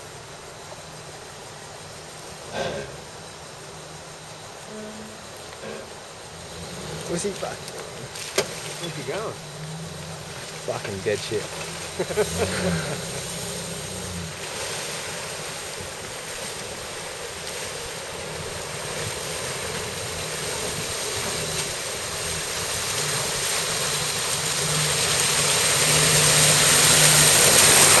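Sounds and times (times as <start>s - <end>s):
vehicle engine running: 0.0s - 16.5s, 17.5s - 28.0s
rushing river water: 5.6s - 28.0s.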